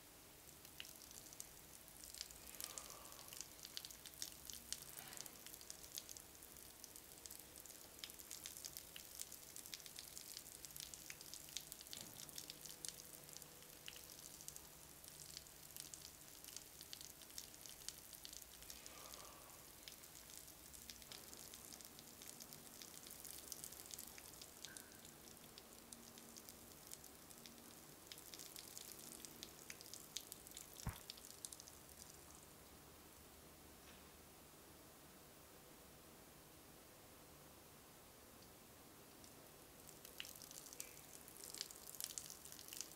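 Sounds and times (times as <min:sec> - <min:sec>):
faint crackling hiss: 0:00.0 - 0:42.9.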